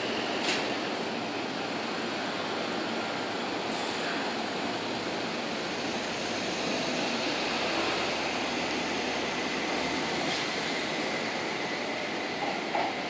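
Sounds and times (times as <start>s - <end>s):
electric train rushing noise: 0.0s - 13.0s.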